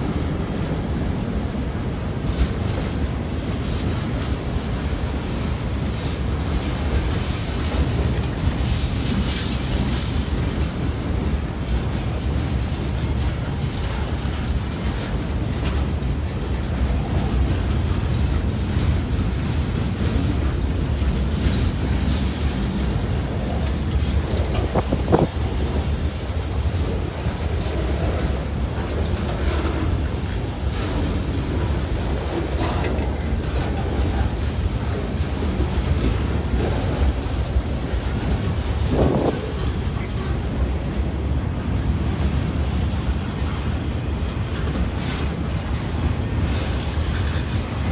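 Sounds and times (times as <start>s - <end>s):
boxcar wheels clattering: 0.0s - 47.9s
freight train rumbling: 0.0s - 47.9s.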